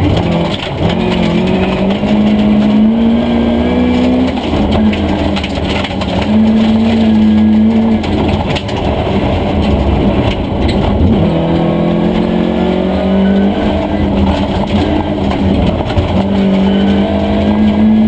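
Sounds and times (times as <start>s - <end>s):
gravel and road noise: 0.0s - 18.0s
rally car engine revving: 0.0s - 18.0s.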